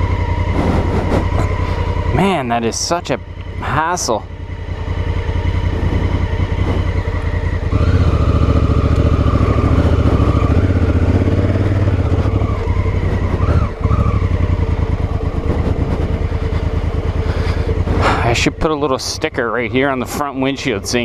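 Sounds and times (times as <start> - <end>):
motorcycle engine riding: 0.0 - 21.0.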